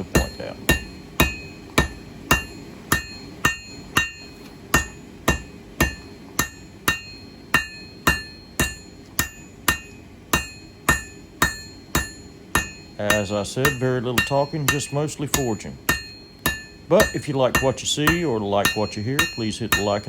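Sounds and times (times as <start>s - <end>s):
hammer striking steel on anvil: 0.0s - 20.0s.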